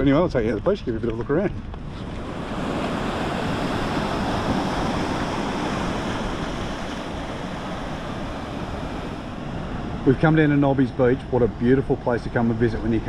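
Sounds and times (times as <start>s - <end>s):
wind buffeting microphone: 0.0s - 13.0s
ocean surf washing onto beach: 1.8s - 13.0s.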